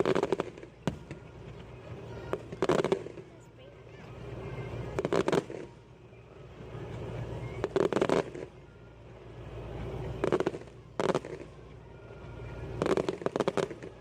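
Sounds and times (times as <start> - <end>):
firework rushing noise: 0.0 - 14.0
fireworks popping and crackling: 0.0 - 14.0.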